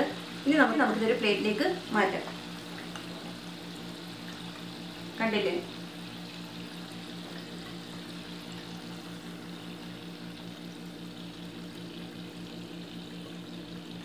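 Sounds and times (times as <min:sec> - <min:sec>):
bubbling sizzle of frying oil: 0:00.0 - 0:14.0.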